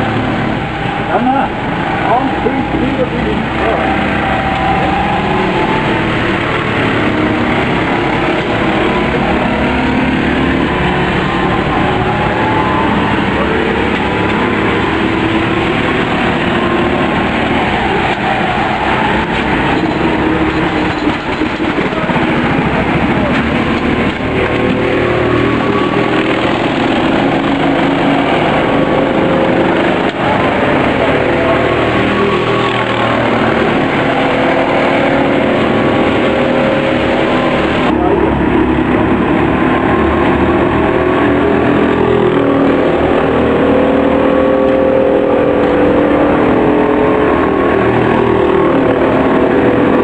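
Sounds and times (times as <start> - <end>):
go-kart engines running: 0.0 - 50.0.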